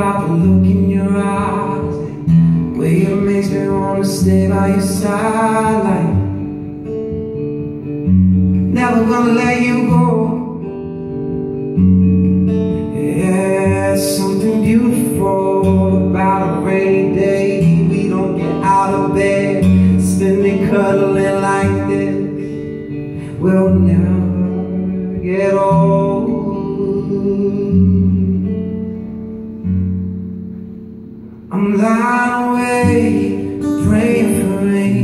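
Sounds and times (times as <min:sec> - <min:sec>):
man singing: 0:00.0 - 0:06.6, 0:08.6 - 0:10.8, 0:12.8 - 0:28.6, 0:31.4 - 0:35.0
acoustic guitar strummed: 0:00.0 - 0:35.0.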